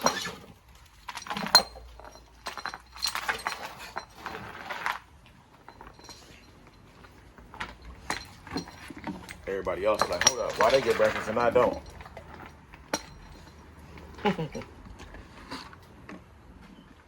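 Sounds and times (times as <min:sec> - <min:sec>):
metal chain rattling: 0:00.0 - 0:15.7.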